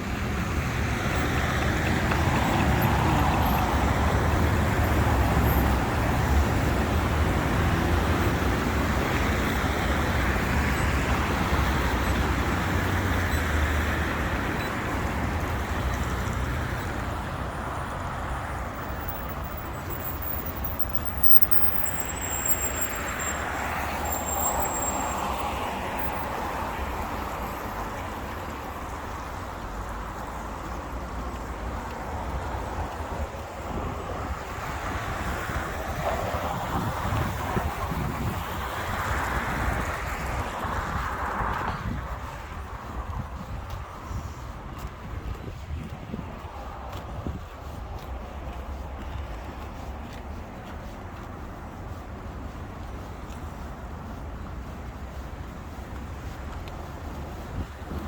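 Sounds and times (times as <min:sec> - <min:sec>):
passing cars: 0:00.0 - 0:58.0.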